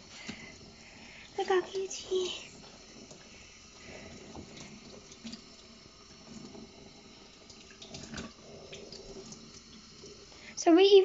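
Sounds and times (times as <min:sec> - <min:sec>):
faint splashing: 0:00.0 - 0:10.9
tap water running into sink: 0:00.0 - 0:11.0.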